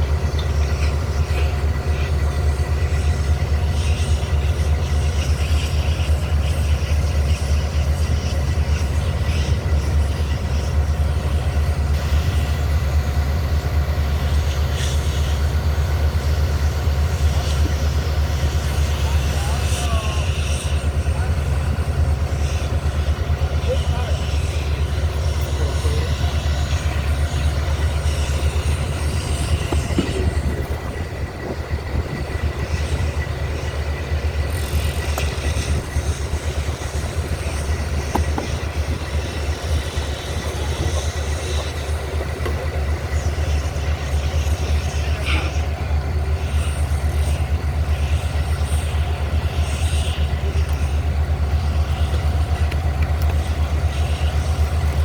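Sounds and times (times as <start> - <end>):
machine droning: 0.0 - 55.0.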